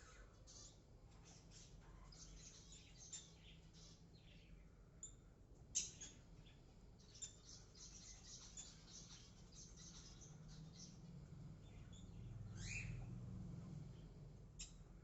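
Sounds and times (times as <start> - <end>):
loud sharp bird sound: 0.0 - 13.1.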